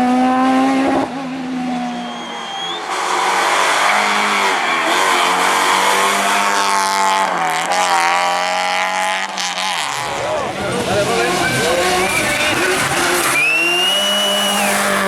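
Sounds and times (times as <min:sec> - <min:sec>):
rally car engine running hard: 0:00.0 - 0:15.0
road noise rushing: 0:00.0 - 0:15.0.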